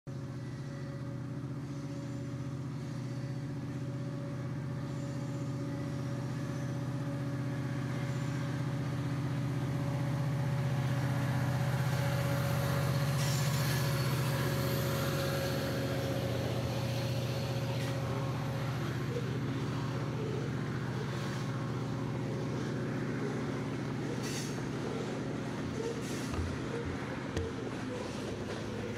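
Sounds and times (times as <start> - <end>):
locomotive engine humming: 0.1 - 28.9.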